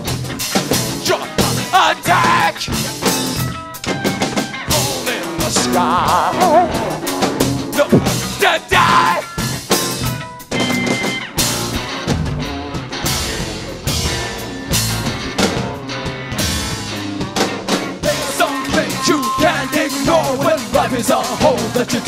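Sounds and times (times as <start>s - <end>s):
electric guitars: 0.0s - 22.0s.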